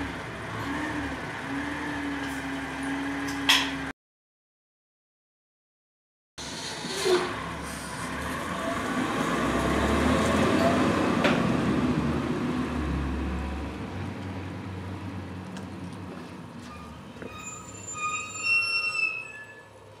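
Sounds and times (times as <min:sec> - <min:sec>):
truck engine rumble: 0:00.0 - 0:03.9, 0:06.4 - 0:20.0.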